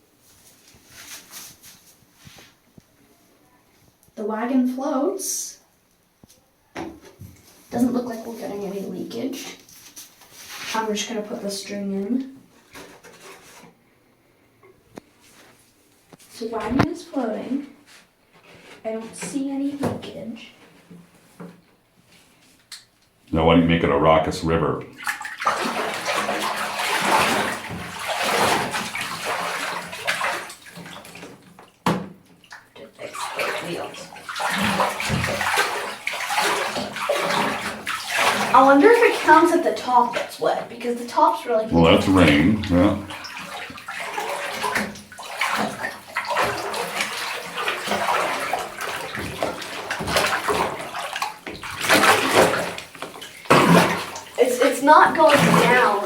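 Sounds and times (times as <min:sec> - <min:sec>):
water sloshing and splashing in tub: 0:00.0 - 0:02.8, 0:06.7 - 0:13.8, 0:14.6 - 0:23.0, 0:24.8 - 0:56.0.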